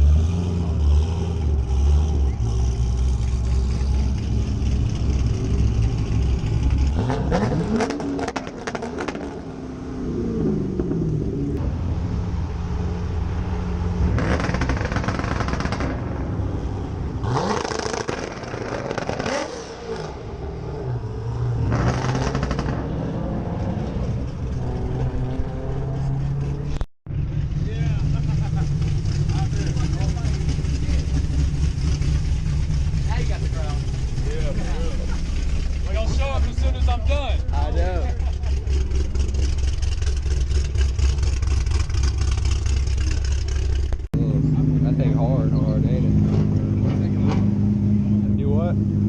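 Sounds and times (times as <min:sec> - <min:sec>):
car engines idling and revving: 0:00.0 - 0:49.0.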